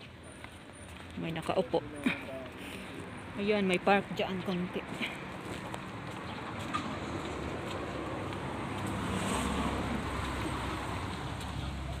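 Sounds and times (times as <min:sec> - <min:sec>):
car passing: 0:01.8 - 0:12.0.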